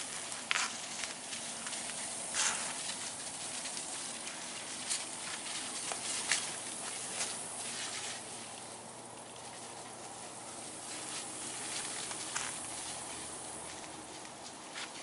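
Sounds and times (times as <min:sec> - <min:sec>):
garden sprayer hissing: 0:00.0 - 0:15.0.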